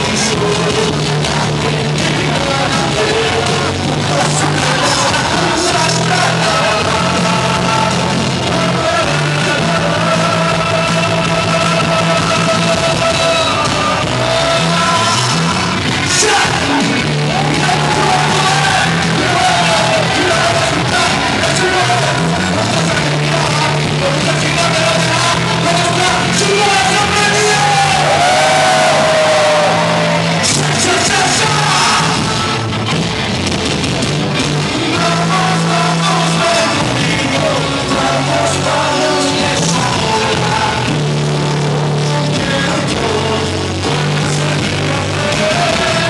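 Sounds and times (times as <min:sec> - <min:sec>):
man singing into a microphone: 0:00.0 - 0:32.6, 0:34.7 - 0:46.0
loud backing track: 0:00.0 - 0:46.0.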